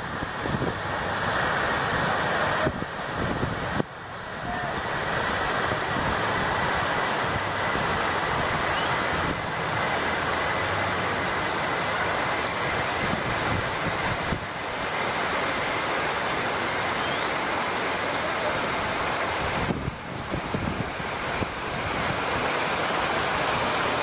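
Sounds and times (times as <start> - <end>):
heavy rain: 0.0 - 24.0
wind: 0.0 - 24.0.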